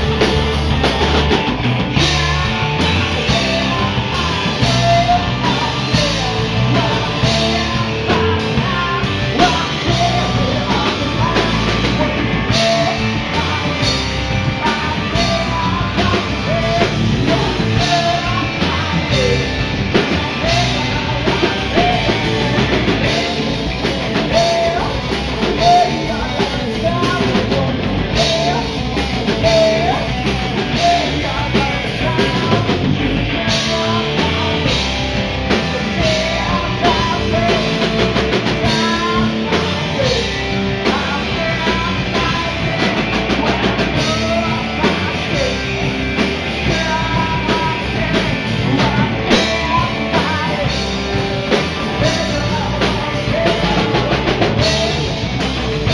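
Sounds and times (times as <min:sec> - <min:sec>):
bass guitar: 0:00.0 - 0:55.9
distorted electric guitars: 0:00.0 - 0:55.9
drum kit: 0:00.0 - 0:55.9
man singing: 0:00.0 - 0:55.9.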